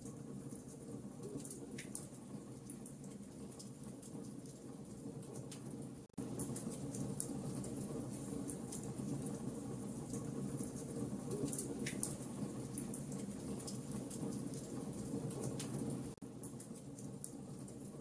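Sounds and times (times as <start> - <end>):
crackles and pops of fire: 0.0 - 18.0
wood fire burning: 0.0 - 18.0.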